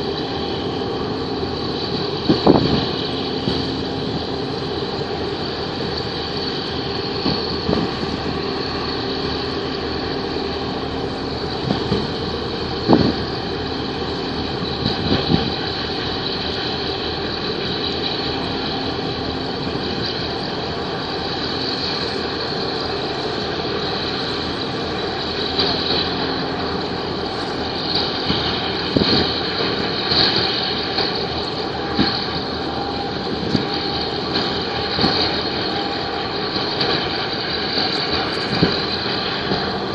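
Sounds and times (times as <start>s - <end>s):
boat diesel engine running: 0.0s - 39.9s.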